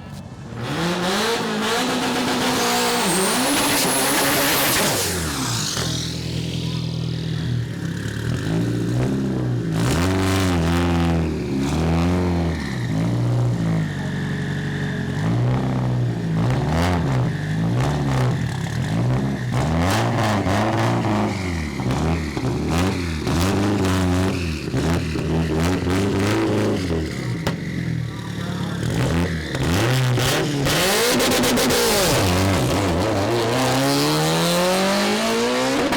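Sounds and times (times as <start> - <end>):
racing car engine revving: 0.5 - 35.9.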